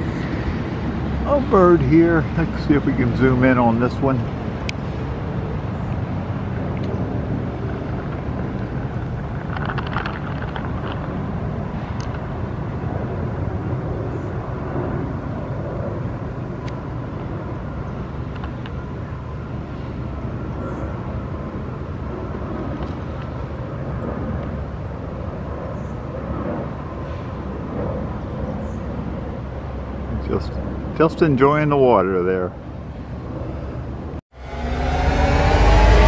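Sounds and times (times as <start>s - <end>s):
distant engine rumble: 0.0s - 36.0s.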